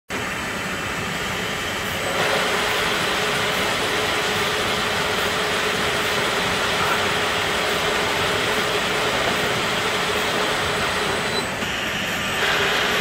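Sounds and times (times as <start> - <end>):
conveyor machine hum: 0.1 - 13.0.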